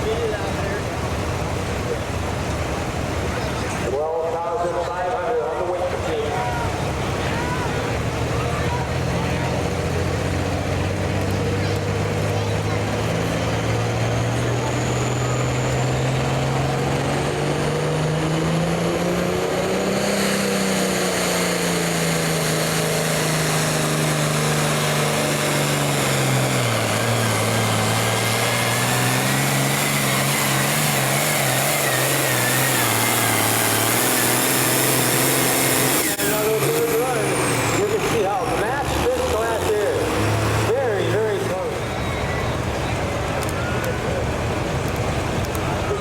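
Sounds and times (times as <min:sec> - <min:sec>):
vehicle engine under load: 0:00.0 - 0:46.0.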